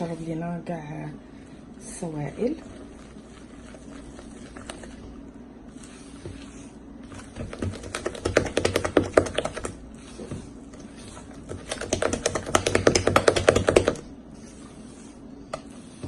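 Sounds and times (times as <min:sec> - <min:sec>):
batter mixing clicking and tapping: 0:02.0 - 0:16.0.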